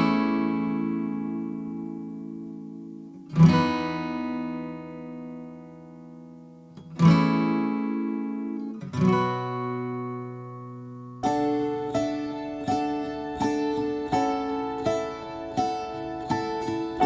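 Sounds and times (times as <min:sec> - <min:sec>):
acoustic guitar strummed slowly: 0:00.0 - 0:17.0.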